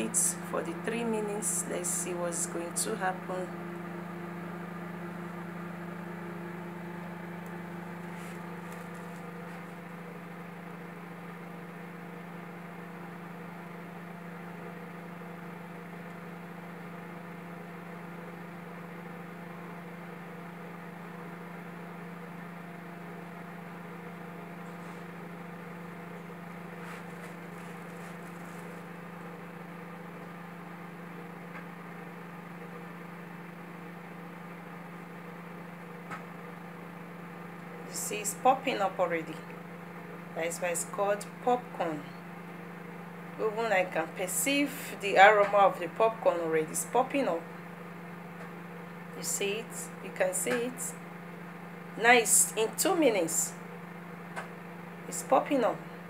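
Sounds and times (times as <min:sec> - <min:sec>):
microwave oven humming: 0:00.0 - 0:56.0.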